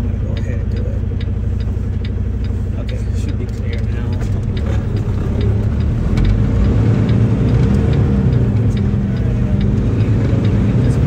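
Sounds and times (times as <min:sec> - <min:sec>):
truck diesel engine pulling away: 0:01.0 - 0:11.0.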